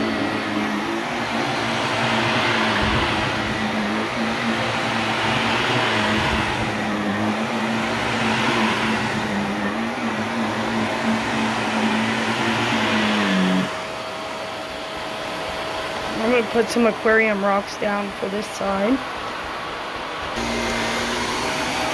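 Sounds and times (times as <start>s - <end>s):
vacuum cleaner running on rug: 0.0s - 21.9s.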